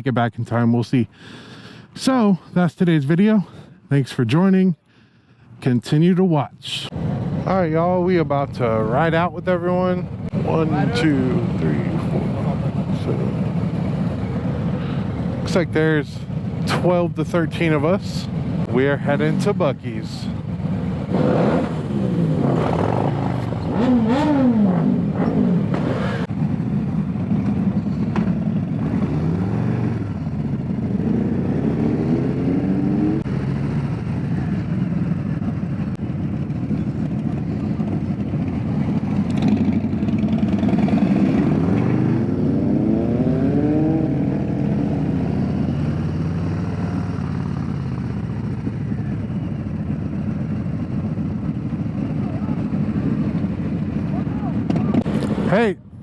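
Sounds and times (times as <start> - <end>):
motorcycle engines accelerating: 6.9 - 56.0.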